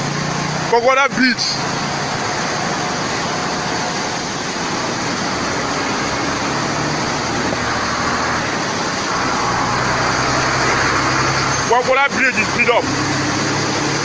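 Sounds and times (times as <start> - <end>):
low vehicle engine hum: 0.0 - 14.0
road traffic rush: 0.0 - 14.0.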